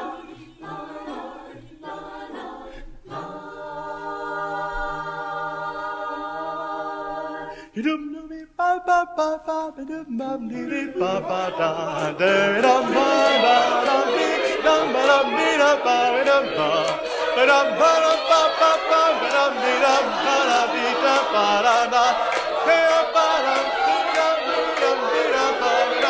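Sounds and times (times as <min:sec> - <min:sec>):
group of voices singing a cappella: 0:00.0 - 0:26.0.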